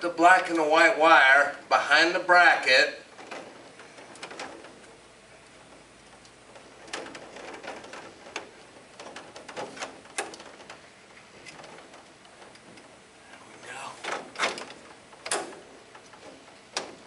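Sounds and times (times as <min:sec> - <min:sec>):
faint room noise: 0:00.0 - 0:17.0
light clicks and knocks: 0:03.1 - 0:17.0.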